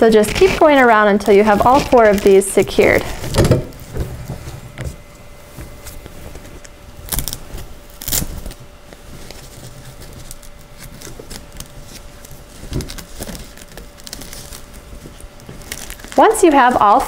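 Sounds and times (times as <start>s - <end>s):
fabric rustling: 0.0s - 17.0s
faint steady hum: 0.0s - 17.0s.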